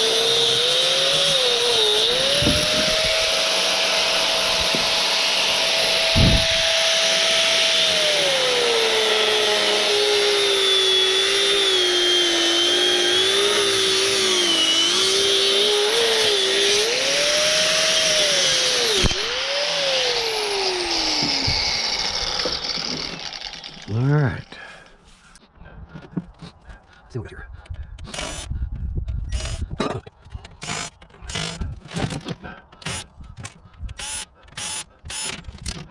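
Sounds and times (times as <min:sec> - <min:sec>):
power tool motor whining: 0:00.0 - 0:24.5, 0:28.0 - 0:28.6, 0:29.2 - 0:29.8, 0:30.4 - 0:33.2, 0:33.9 - 0:35.9.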